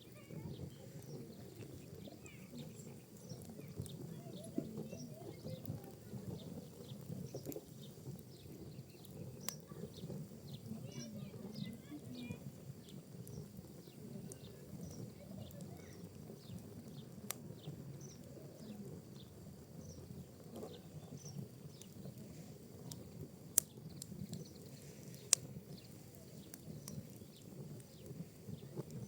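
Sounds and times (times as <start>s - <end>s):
fire burning with crackles: 0.0s - 29.0s
sharp pops of fire: 0.1s - 29.0s.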